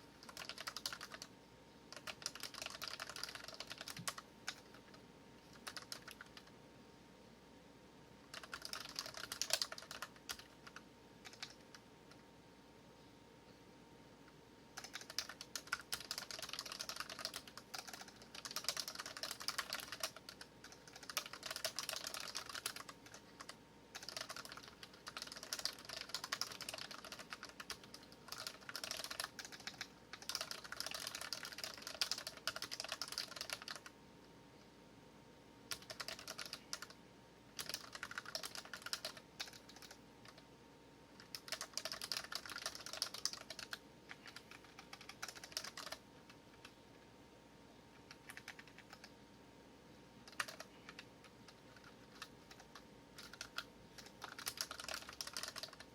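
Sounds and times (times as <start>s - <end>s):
mechanical keyboard typing: 0.0s - 1.3s, 1.9s - 6.5s, 8.2s - 12.2s, 14.8s - 33.9s, 35.7s - 37.0s, 37.6s - 40.4s, 41.2s - 46.8s, 48.0s - 49.1s, 50.2s - 55.9s.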